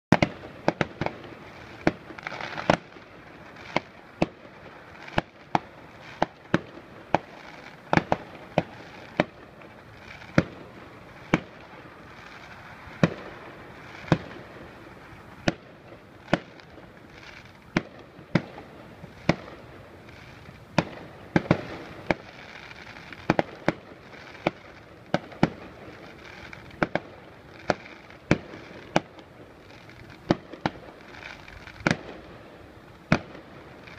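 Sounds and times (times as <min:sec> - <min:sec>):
fireworks bangs: 0:00.1 - 0:33.9.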